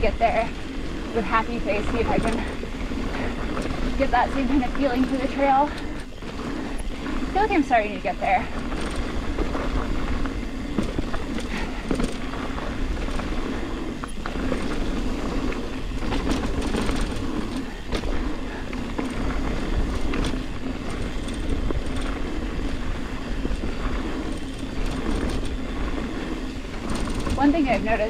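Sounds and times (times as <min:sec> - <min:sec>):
bike rattles and clacks: 0:00.0 - 0:28.0
tyres rumbling on dirt: 0:00.0 - 0:28.0.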